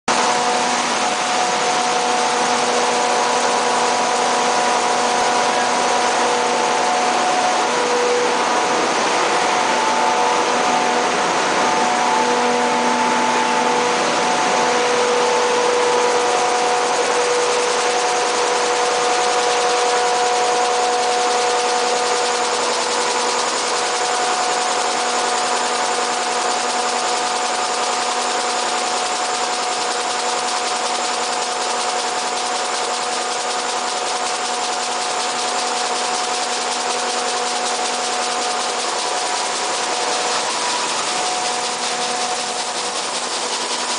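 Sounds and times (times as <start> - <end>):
machine fans humming: 0.1 - 43.9.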